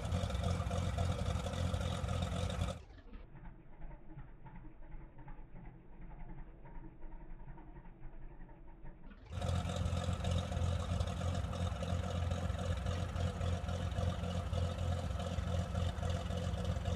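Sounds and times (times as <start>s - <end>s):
propeller plane engine running: 0.0s - 16.9s.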